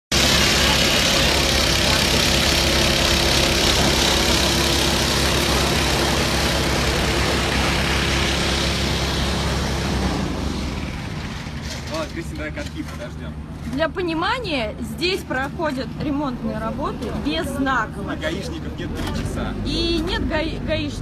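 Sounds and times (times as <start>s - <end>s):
diesel machinery engine drone: 0.1s - 21.0s.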